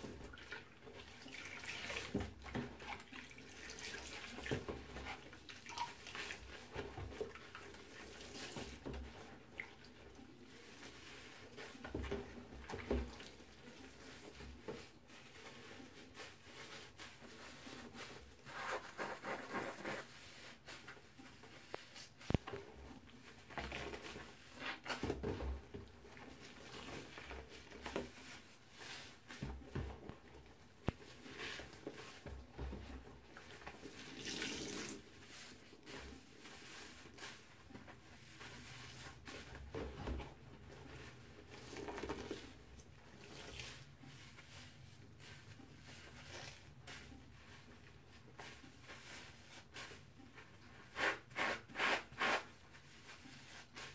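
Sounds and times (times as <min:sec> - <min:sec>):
sponges squishing in suds: 0:00.0 - 0:53.9.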